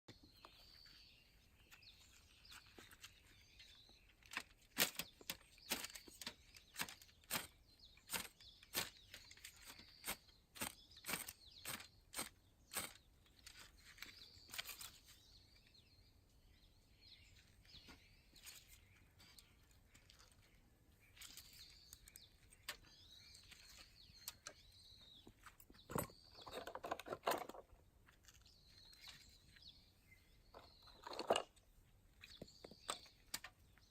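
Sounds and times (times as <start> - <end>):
birds chirping faintly: 0.1 - 33.9.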